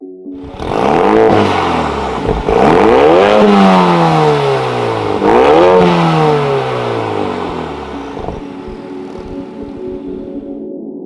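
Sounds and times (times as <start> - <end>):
car engine revving: 0.4 - 10.5.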